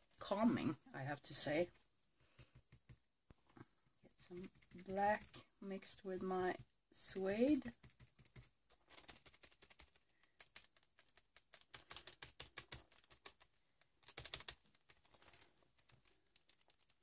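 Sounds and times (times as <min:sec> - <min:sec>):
tapping and rubbing on paper: 0:01.7 - 0:05.5, 0:06.1 - 0:17.0.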